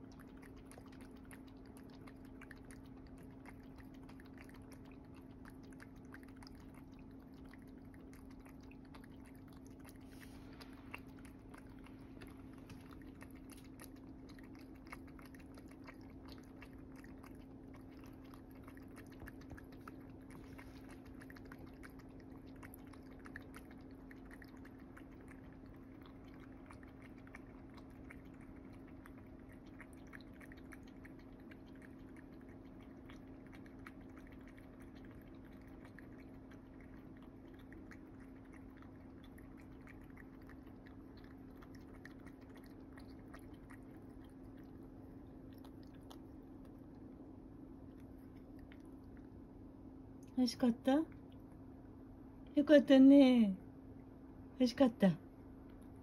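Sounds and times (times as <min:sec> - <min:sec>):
cat lapping water: 0:00.0 - 0:52.0, 0:54.7 - 0:56.0.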